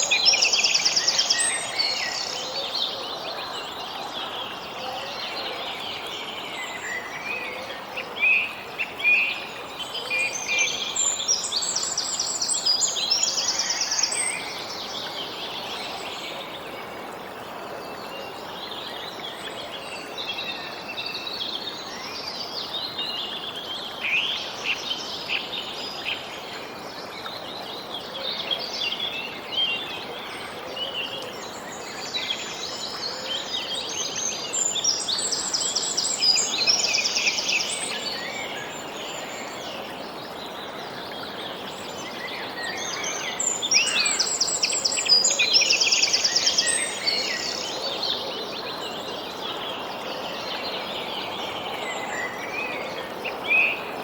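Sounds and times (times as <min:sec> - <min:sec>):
songbirds chirping and twittering: 0:00.0 - 0:54.0
steady background hiss: 0:00.0 - 0:54.0.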